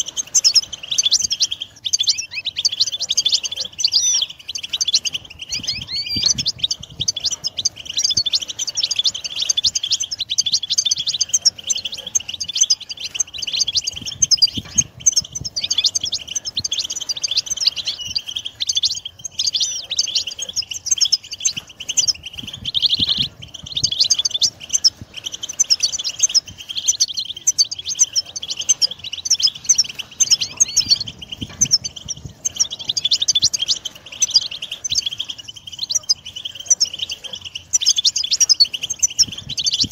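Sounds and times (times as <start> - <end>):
finch song twittering: 0.0 - 39.9.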